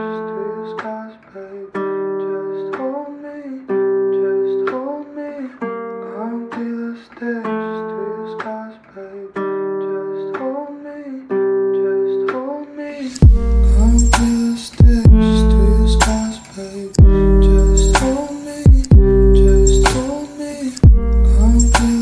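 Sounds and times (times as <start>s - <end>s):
acoustic guitar strummed chords: 0.0s - 22.0s
bending guitar melody line: 1.7s - 22.0s.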